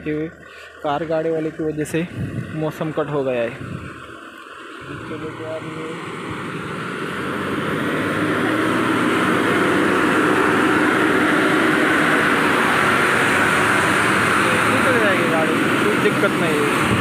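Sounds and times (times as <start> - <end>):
truck diesel engine climbing: 0.0 - 17.0.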